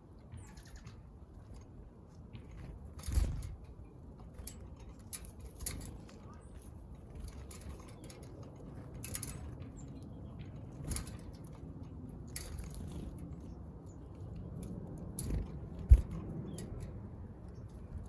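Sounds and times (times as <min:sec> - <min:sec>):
low background rumble: 0:00.0 - 0:18.0
birds pecking seed: 0:00.2 - 0:18.0.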